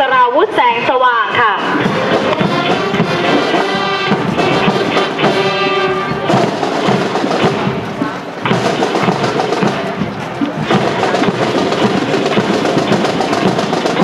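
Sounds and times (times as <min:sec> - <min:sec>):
brass sustained notes: 0:00.6 - 0:14.0
steady drum beat: 0:01.4 - 0:14.0.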